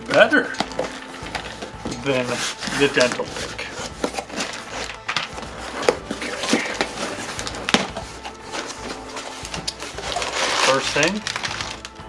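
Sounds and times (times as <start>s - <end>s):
packing paper rustling: 0.0s - 12.0s
cardboard cracks and scrapes: 0.1s - 11.9s.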